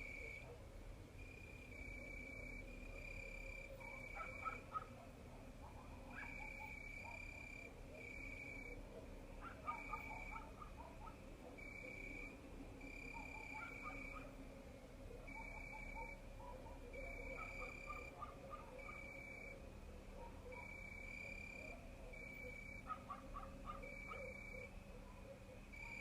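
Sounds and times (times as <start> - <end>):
crickets chirping: 0.0 - 0.5, 1.2 - 5.2, 6.1 - 26.0
soft animal calls: 1.8 - 14.4, 15.2 - 19.6, 20.3 - 26.0.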